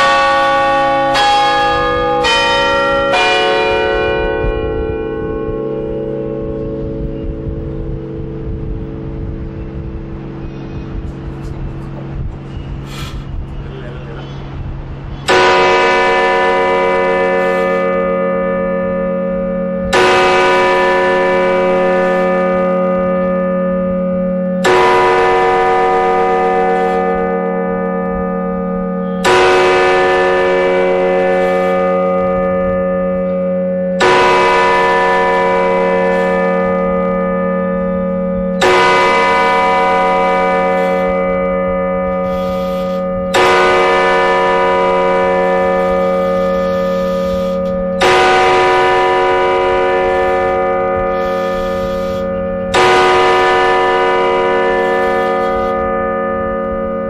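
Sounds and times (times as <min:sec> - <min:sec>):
clock tower bell striking: 0:00.0 - 0:13.7, 0:14.4 - 0:57.0.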